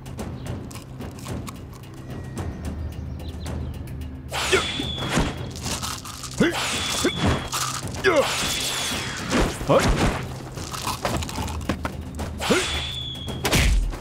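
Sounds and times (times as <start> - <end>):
low background music: 0.0 - 14.0.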